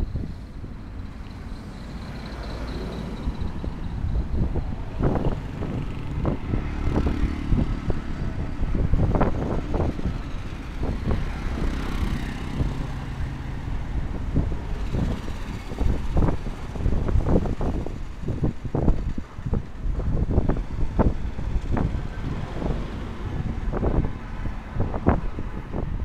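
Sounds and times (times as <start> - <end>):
vehicles passing with low rumble: 0.0 - 26.0.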